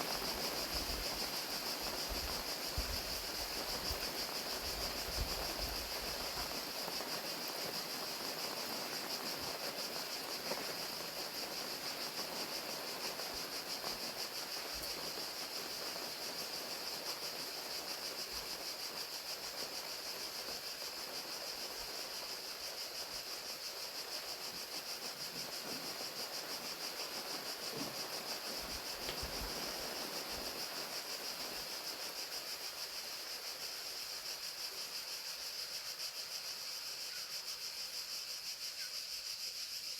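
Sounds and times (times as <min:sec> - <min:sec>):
rain falling: 0:00.0 - 0:36.0
crickets trilling: 0:00.0 - 0:39.9.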